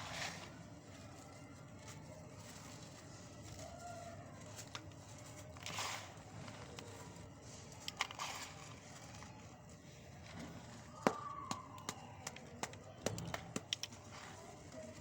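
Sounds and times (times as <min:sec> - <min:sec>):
cement cracking and crunching: 0:00.0 - 0:15.0.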